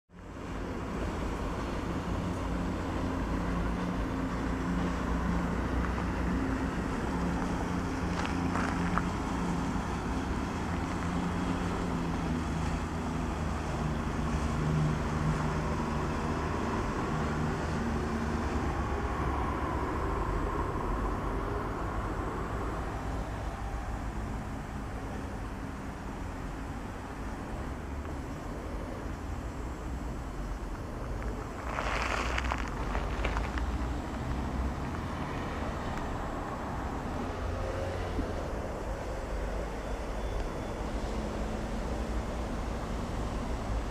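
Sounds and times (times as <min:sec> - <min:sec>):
distant engine drone: 0:00.1 - 0:43.9
low rumble of wind: 0:00.1 - 0:43.9.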